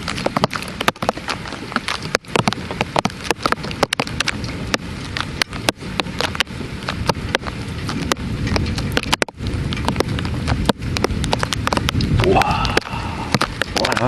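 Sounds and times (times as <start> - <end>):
heavy rain hissing: 0.0 - 14.0
raindrops tapping close by: 0.0 - 14.0.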